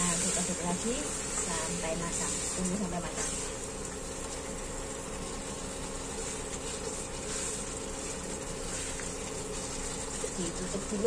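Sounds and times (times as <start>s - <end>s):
spatula stirring in a wok: 0.0s - 11.0s
steady low hum: 0.0s - 11.0s
vegetables simmering and hissing: 0.0s - 11.0s.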